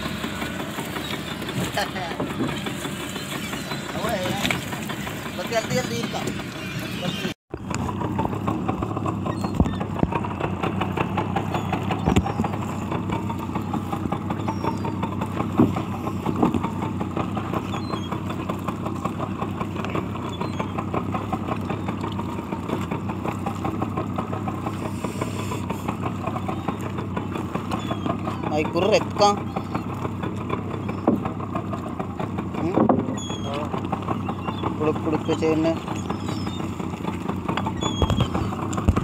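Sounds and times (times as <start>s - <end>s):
boat engine idling: 0.0s - 39.0s.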